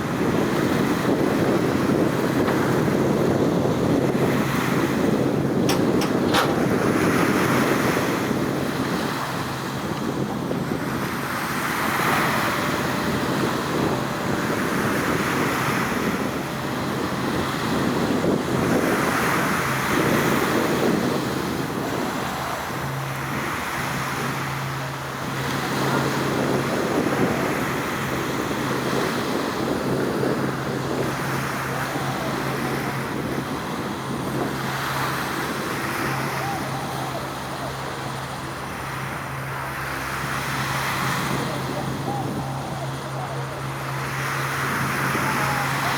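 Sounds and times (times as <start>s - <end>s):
sea water rushing: 0.0s - 45.9s
wind buffeting microphone: 0.0s - 45.9s.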